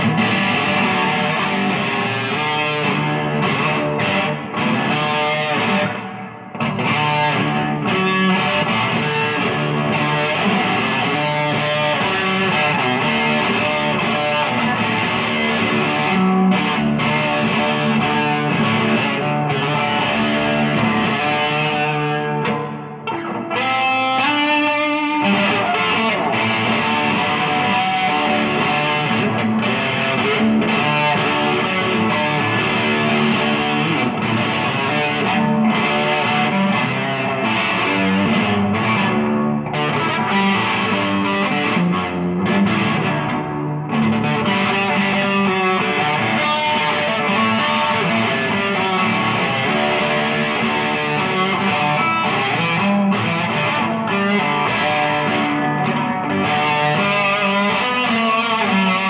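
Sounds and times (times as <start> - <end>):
electric guitar through amplifier: 0.0 - 59.0.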